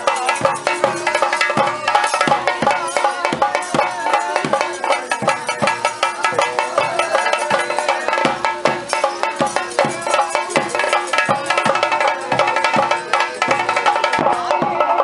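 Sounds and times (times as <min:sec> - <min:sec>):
drums beating fast: 0:00.0 - 0:15.0.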